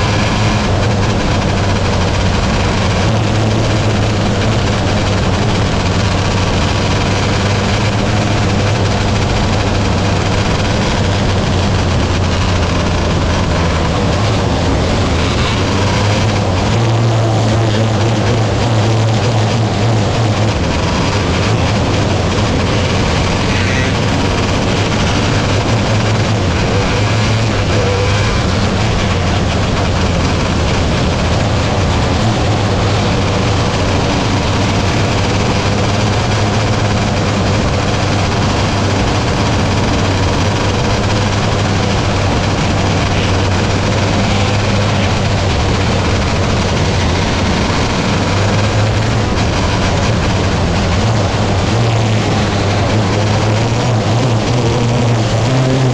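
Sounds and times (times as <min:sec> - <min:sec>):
racing car engines droning: 0:00.0 - 0:55.9.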